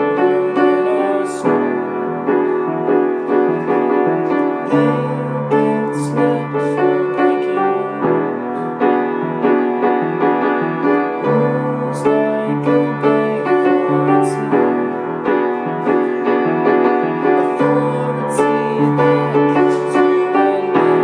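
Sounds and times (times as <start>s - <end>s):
upright piano playing chords: 0.0s - 21.0s.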